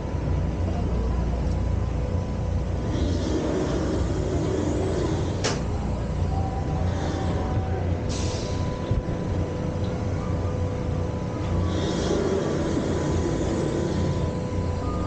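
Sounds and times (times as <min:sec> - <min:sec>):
faint steady whine: 0:00.0 - 0:15.0
riverboat low rumble: 0:00.0 - 0:15.0.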